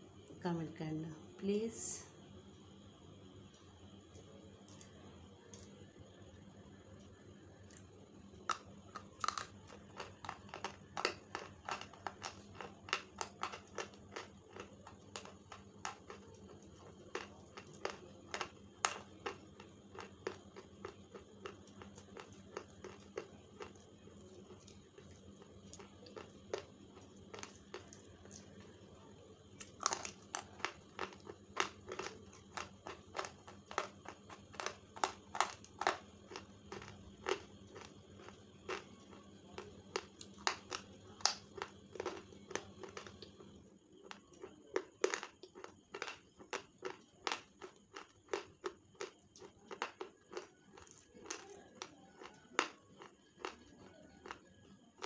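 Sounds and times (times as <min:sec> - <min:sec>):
pencils being chewed crunching: 0:08.5 - 0:28.8, 0:29.6 - 0:55.0.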